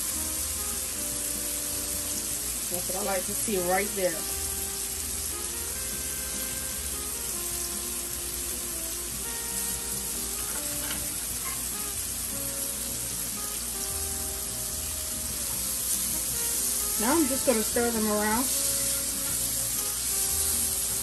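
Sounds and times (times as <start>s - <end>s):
shrimp sizzling in a hot pan: 0.0s - 21.0s.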